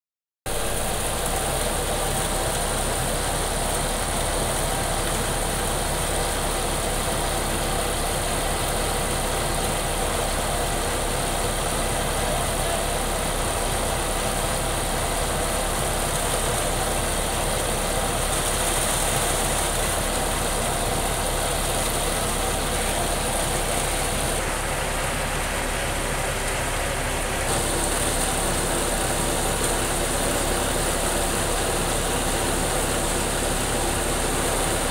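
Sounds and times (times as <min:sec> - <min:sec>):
thresher drum and fan whirring: 0:00.5 - 0:34.9
tractor diesel engine running: 0:00.5 - 0:34.9.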